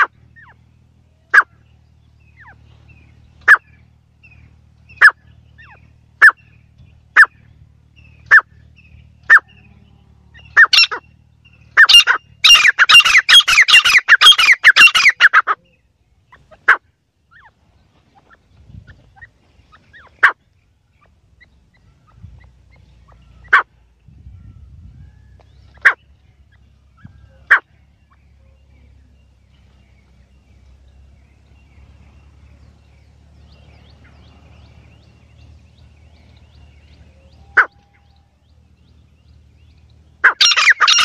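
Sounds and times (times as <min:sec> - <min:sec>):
francolin calling: 0:00.0 - 0:24.7, 0:25.3 - 0:41.0.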